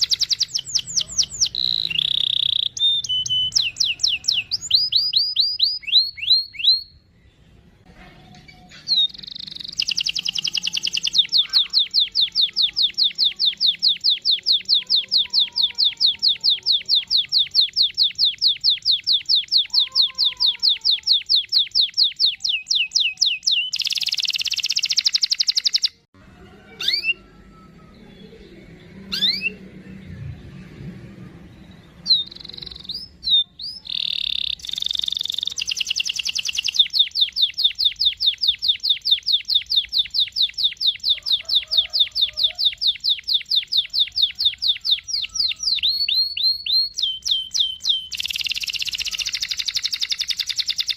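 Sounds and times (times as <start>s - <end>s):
canary singing trills: 0.0s - 7.4s, 8.4s - 50.9s.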